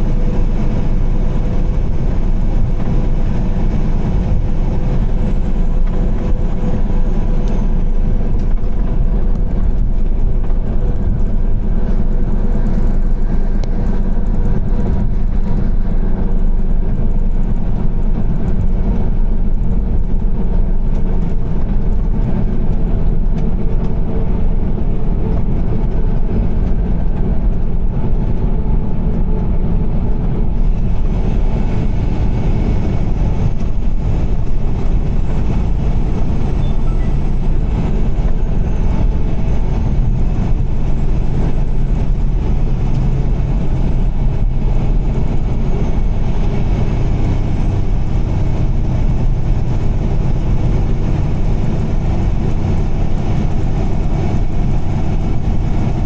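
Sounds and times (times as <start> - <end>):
car driving at highway speed: 0.0 - 56.0.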